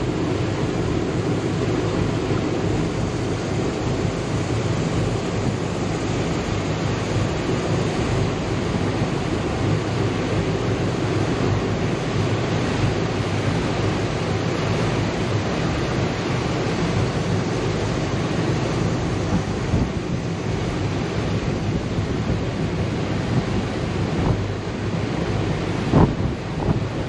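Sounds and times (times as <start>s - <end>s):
low steady drone: 0.0s - 27.0s
water washing along hull: 0.0s - 27.0s
wind on microphone: 0.0s - 27.0s.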